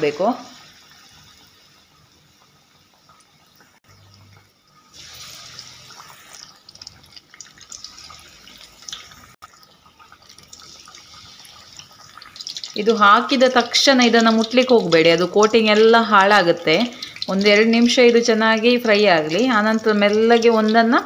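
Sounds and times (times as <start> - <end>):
deep-frying sizzle with crackles: 0.0 - 21.0.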